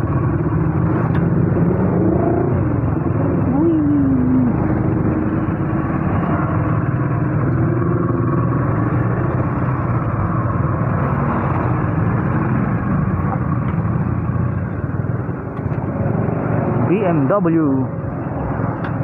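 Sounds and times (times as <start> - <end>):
motorcycles and cars: 0.0 - 19.0
road and wind noise: 0.0 - 19.0
scooter engine hum: 0.0 - 19.0.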